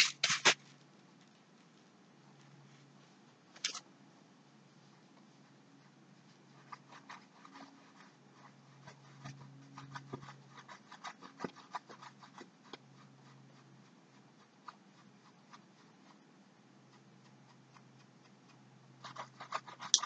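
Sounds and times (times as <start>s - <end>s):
low steady hum: 0.0s - 20.0s
paintbrush strokes on canvas: 1.4s - 3.5s, 4.7s - 20.0s.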